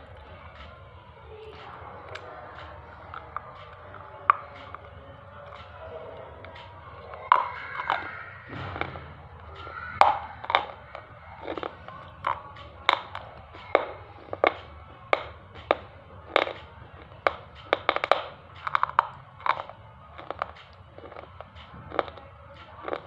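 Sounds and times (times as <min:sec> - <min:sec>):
crunchy chewing: 0:01.4 - 0:23.0.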